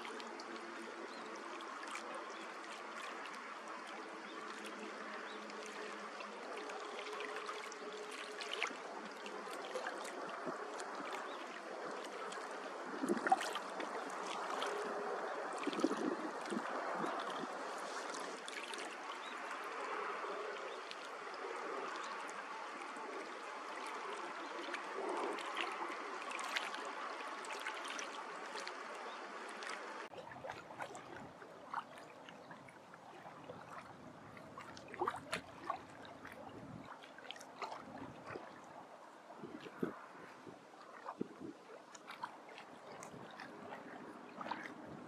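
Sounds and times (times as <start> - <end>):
small splashes: 0.0 - 45.0
water lapping against rocks: 0.0 - 45.0.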